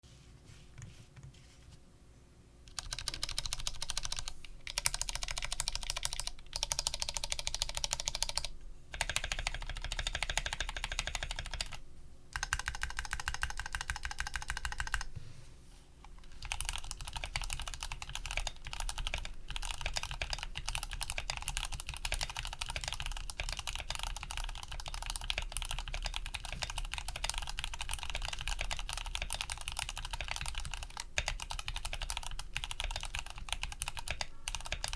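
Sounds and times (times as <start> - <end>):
mechanical keyboard typing: 2.7 - 15.1, 16.2 - 34.9.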